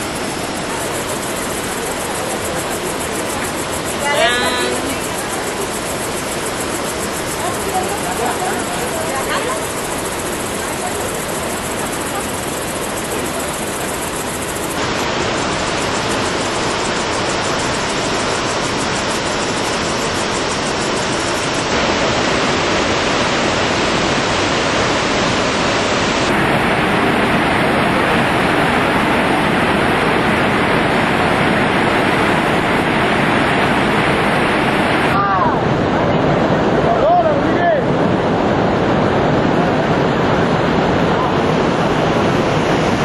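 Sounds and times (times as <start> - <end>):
heavy falling water rushing: 0.0 - 43.0.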